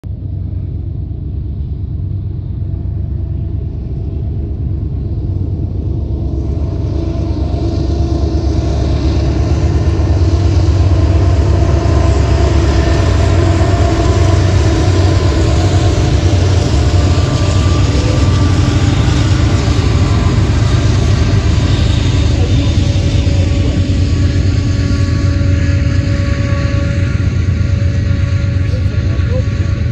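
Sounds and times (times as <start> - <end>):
diesel locomotive engine rumble: 0.0 - 29.9
passing train rushing noise: 0.2 - 29.9.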